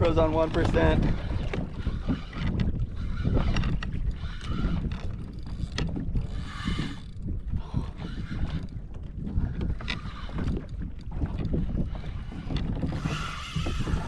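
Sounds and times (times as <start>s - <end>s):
water sloshing against kayak: 0.0s - 14.0s
wind rumbling on microphone: 0.0s - 14.0s.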